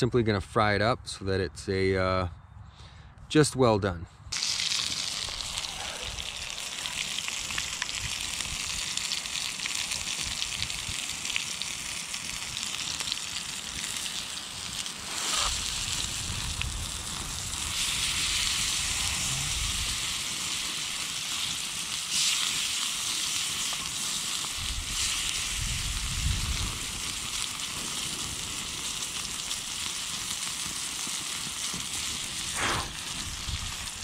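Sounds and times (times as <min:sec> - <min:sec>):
meat sizzling in oil: 0:04.4 - 0:34.0.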